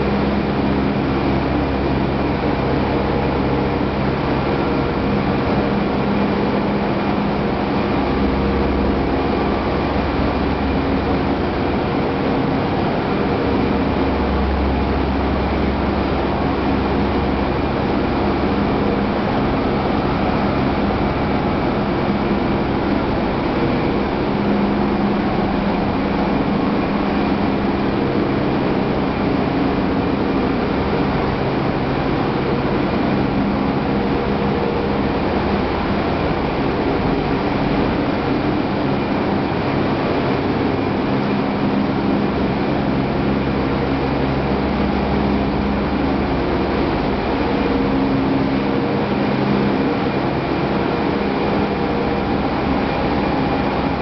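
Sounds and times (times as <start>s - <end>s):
low machine hums: 0.0s - 54.0s.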